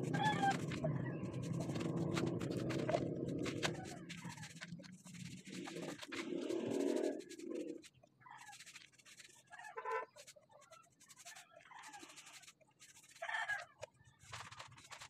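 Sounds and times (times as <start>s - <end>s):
paintbrush swishing over wood: 0.0s - 13.4s.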